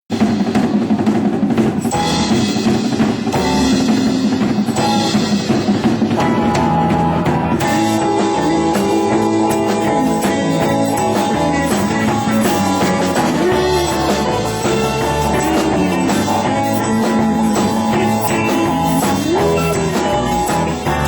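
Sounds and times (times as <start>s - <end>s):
band music with drum kit: 0.1s - 21.0s.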